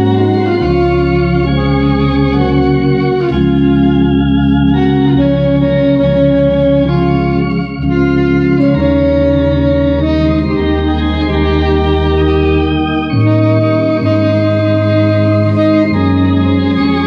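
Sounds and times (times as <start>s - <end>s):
electronic organ playing hymn chords: 0.0s - 17.0s
tenor saxophone: 0.0s - 17.0s.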